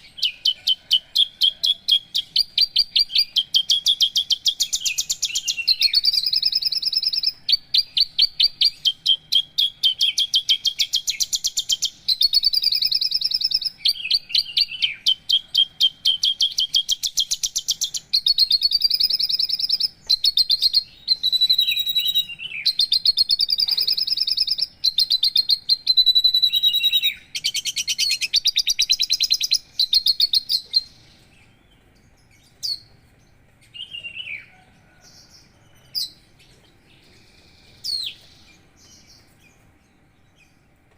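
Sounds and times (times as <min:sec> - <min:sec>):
bird singing trills: 0:00.0 - 0:40.8.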